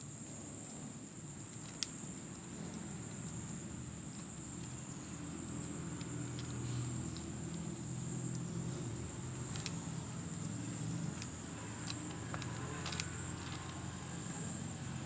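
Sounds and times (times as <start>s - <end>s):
steady low hum: 0.0s - 15.0s
kitten chewing bone crunching: 0.3s - 15.0s.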